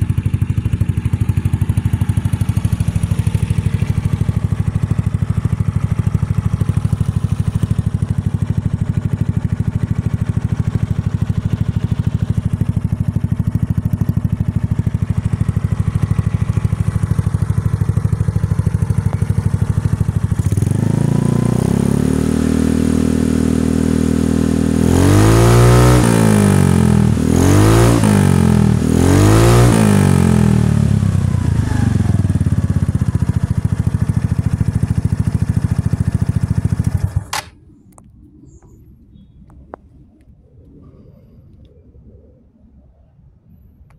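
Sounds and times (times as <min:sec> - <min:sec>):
scooter engine idling and revving: 0:00.0 - 0:37.5.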